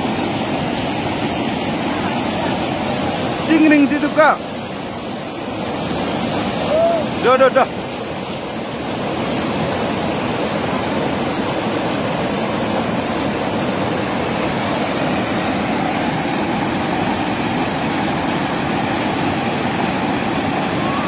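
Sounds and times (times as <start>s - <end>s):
river rushing over boulders: 0.0s - 21.0s.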